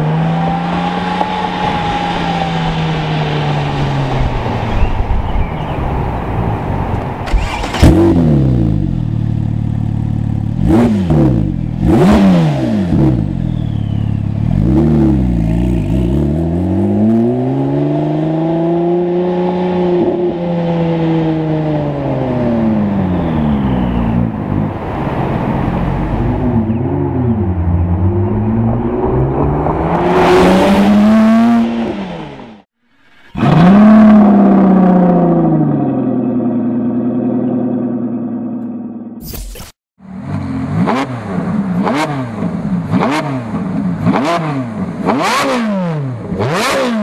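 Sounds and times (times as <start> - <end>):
car engine idling and revving: 0.0 - 39.2, 40.0 - 47.0.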